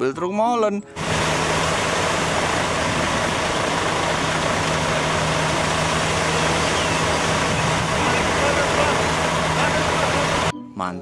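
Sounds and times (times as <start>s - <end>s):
diesel engine humming: 0.9s - 10.5s.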